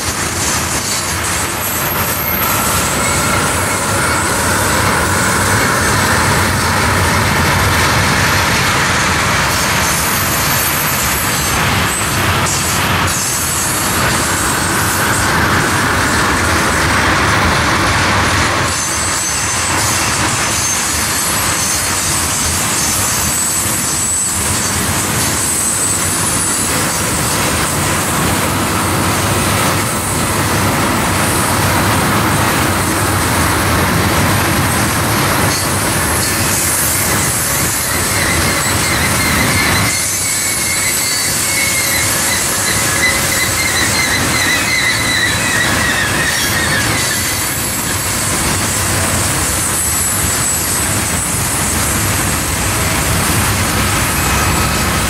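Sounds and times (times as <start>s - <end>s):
high wheel squeal: 0.0s - 33.7s, 34.4s - 55.0s
steel wheels rumbling on rails: 0.0s - 55.0s.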